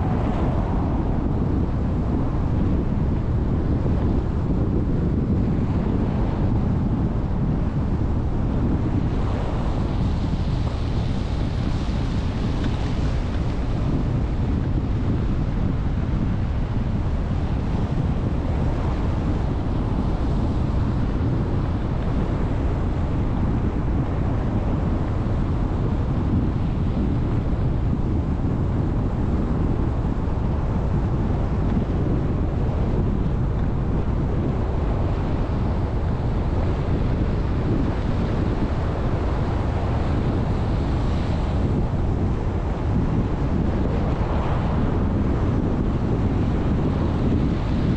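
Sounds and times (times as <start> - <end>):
car road and tyre noise: 0.0 - 47.9
wind buffeting microphone: 0.0 - 47.9.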